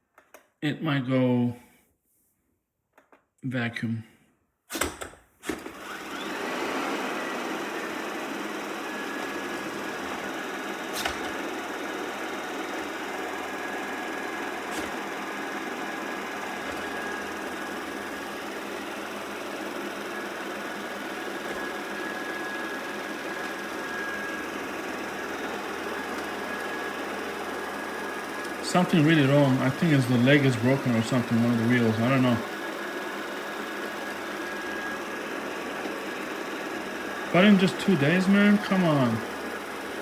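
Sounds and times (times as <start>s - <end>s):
robot vacuum running: 4.8s - 40.0s.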